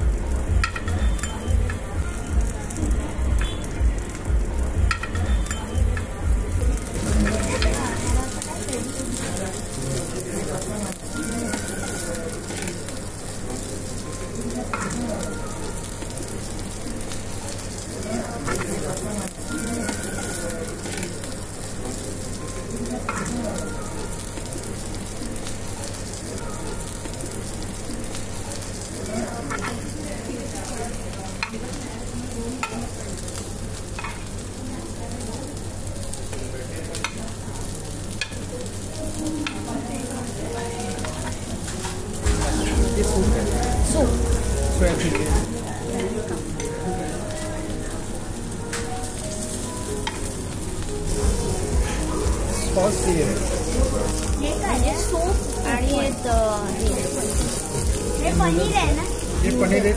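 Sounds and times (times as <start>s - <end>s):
vegetables sizzling on grill plate: 0.0s - 59.9s.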